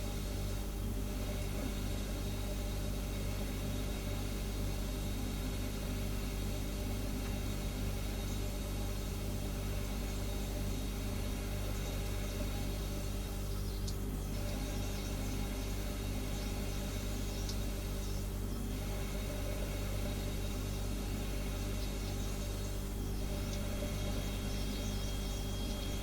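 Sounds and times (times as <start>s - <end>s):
refrigerator humming: 0.0s - 26.0s.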